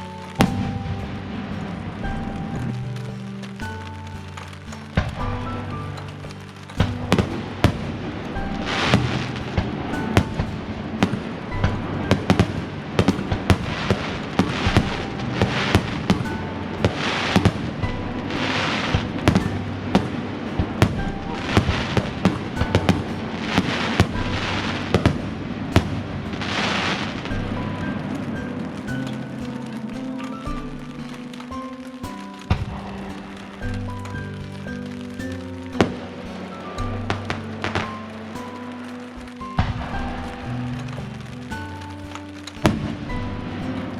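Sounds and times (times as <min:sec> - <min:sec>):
fireworks bangs: 0:00.0 - 0:43.9
hissing crackle: 0:00.0 - 0:43.9
music with held notes: 0:00.0 - 0:43.9.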